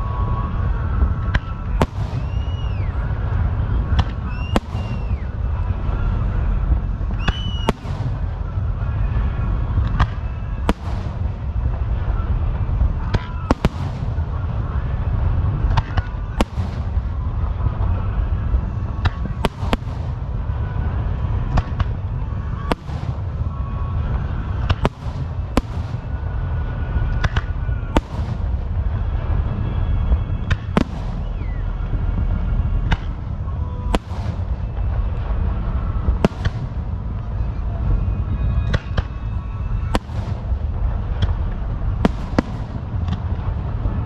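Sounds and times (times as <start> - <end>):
fireworks bangs: 0.0 - 44.0
steady low rumble: 0.0 - 44.0.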